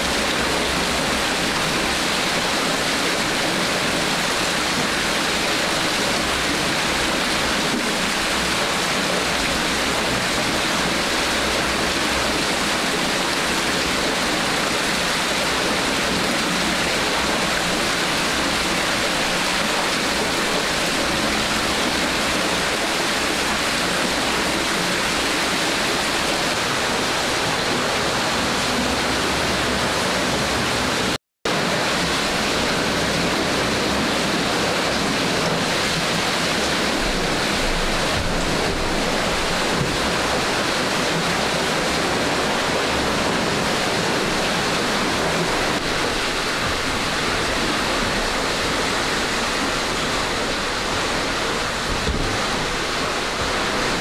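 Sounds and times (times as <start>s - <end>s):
water pouring and churning in tub: 0.0s - 54.0s.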